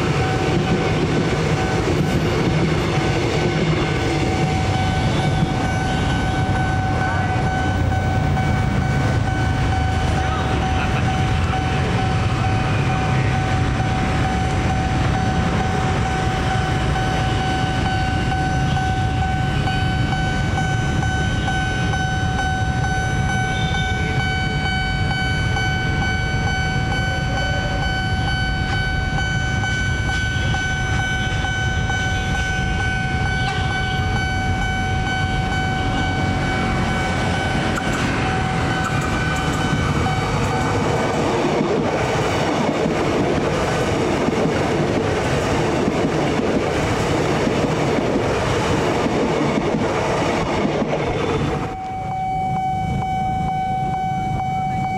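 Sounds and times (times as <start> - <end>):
steady high tone: 0.0 - 42.7, 50.1 - 54.9
electric train rumbling: 0.0 - 54.9
wheel and rail noise: 0.0 - 54.9.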